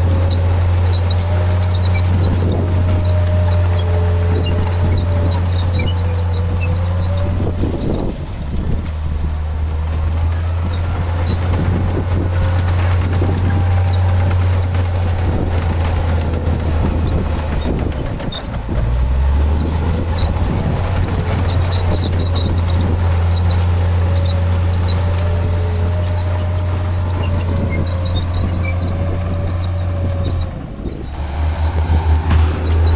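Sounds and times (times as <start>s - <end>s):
heavy diesel engine drone: 0.0s - 32.9s
knocks and rattles: 0.0s - 32.9s.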